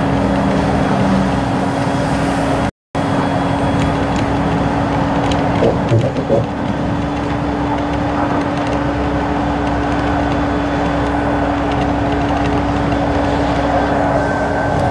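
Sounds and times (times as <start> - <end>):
car road noise: 0.0 - 14.9
constant low hum: 0.0 - 14.9.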